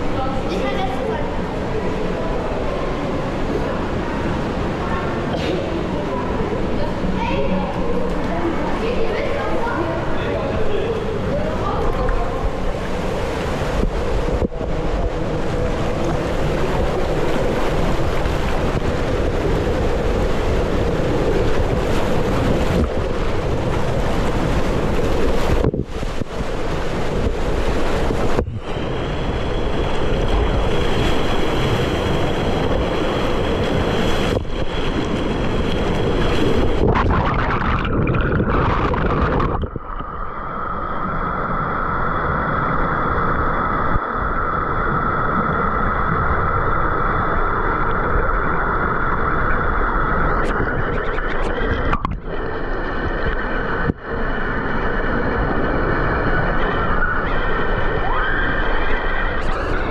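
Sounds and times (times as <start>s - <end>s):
water churning and splashing: 0.0s - 59.9s.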